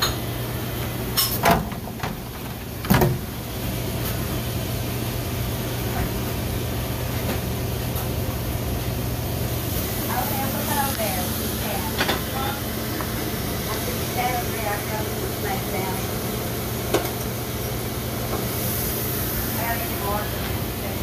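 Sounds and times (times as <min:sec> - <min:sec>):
ice machine humming: 0:00.0 - 0:21.0.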